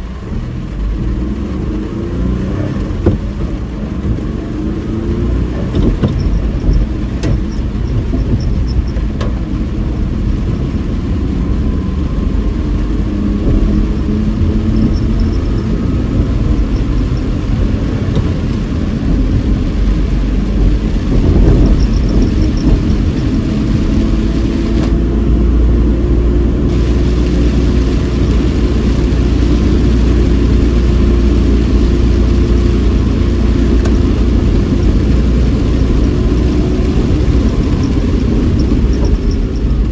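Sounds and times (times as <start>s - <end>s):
car engine and tyres on wet road: 0.0s - 39.9s
heavy rain: 0.0s - 39.9s.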